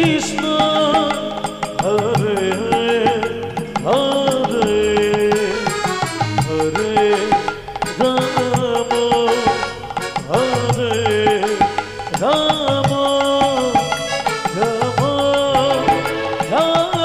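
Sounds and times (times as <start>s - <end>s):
keyboard melody: 0.0s - 17.0s
steady percussion beats: 0.0s - 17.0s.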